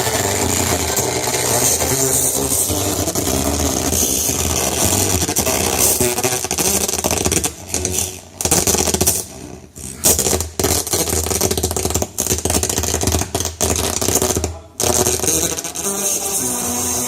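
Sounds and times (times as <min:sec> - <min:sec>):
distorted crackling speaker sound: 0:00.0 - 0:17.0.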